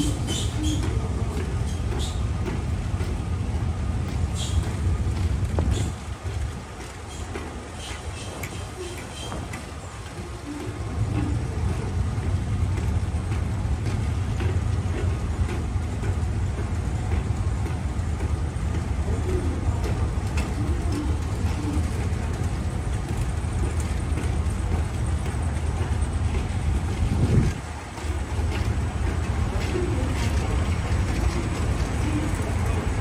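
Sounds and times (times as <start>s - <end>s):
moving walkway rumble: 0.0s - 33.0s
walkway bump: 0.0s - 33.0s.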